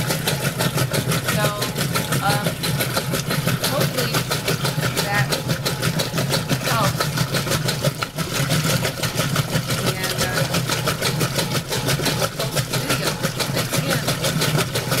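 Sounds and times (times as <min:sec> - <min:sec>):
agitator clattering: 0:00.0 - 0:15.0
washing machine motor hum: 0:00.0 - 0:15.0.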